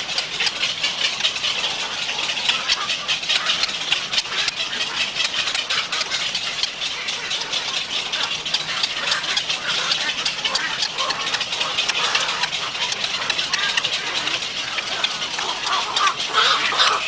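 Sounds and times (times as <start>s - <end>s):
herons clicking chatter: 0.0s - 17.0s.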